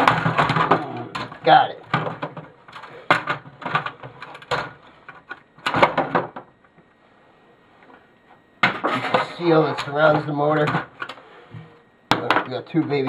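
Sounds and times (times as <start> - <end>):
plastic and metal parts clattering: 0.0 - 6.5, 8.6 - 13.0.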